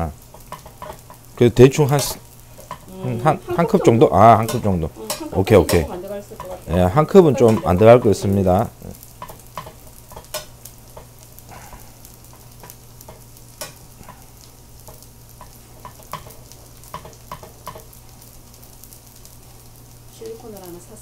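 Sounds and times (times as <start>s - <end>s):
fish frying in oil: 0.0s - 21.0s.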